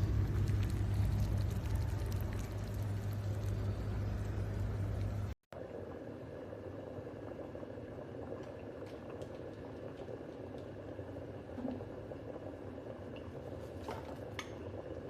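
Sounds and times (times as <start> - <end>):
kettle water coming to the boil: 0.0 - 15.0.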